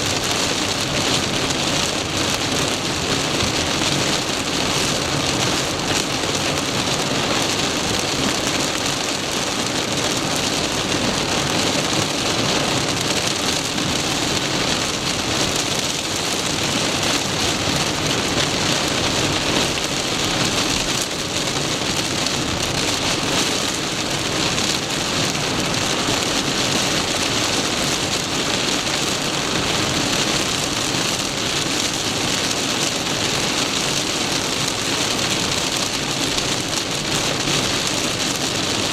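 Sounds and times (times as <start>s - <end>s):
heavy rain beating on a car: 0.0s - 38.9s.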